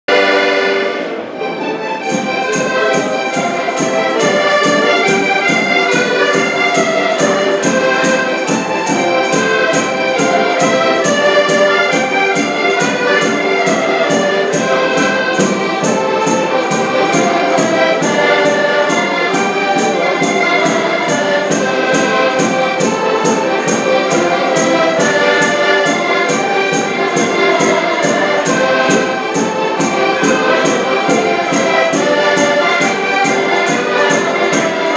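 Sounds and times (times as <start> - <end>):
button accordions playing folk tune: 0.1 - 34.9.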